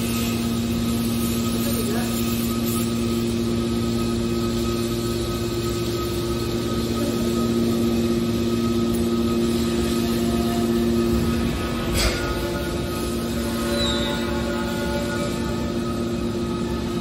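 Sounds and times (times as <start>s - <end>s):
hydraulic baler humming: 0.0s - 17.0s.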